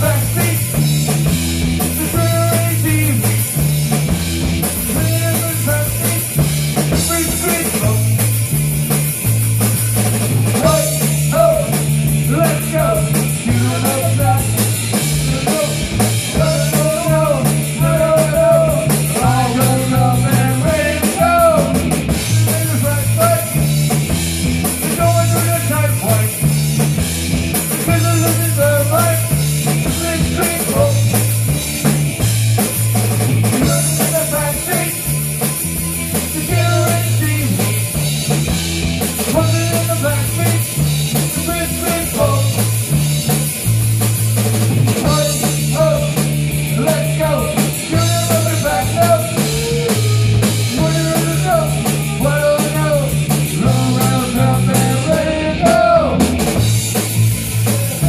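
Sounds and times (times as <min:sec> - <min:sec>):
distorted electric guitar: 0:00.0 - 0:58.0
drum kit fast beat: 0:00.0 - 0:58.0
electric bass: 0:00.0 - 0:58.0.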